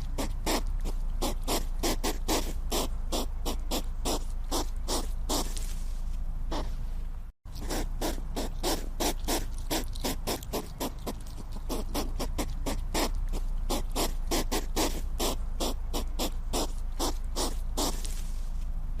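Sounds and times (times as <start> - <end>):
hedgehog puffing breaths: 0.0 - 6.9, 7.5 - 18.6
steady low hum: 0.0 - 19.0.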